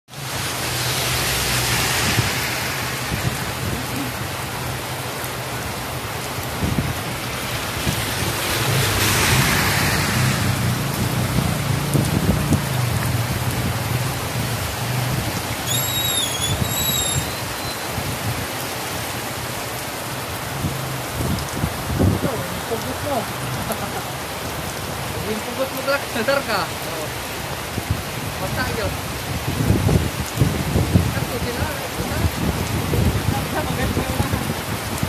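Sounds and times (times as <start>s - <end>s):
heavy rain on pavement: 0.1s - 35.0s.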